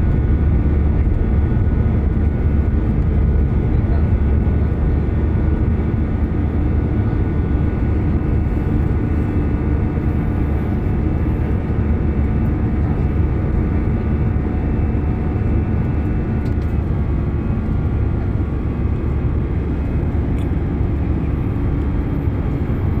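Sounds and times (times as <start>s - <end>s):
airliner engines from cabin: 0.0s - 23.0s.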